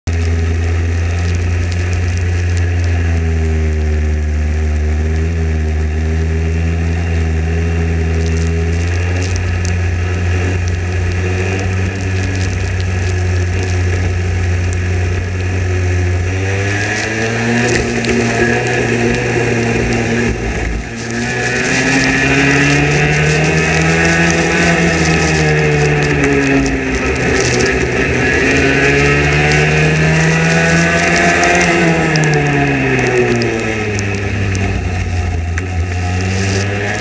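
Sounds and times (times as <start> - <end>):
racing kart engine: 0.0 - 37.0.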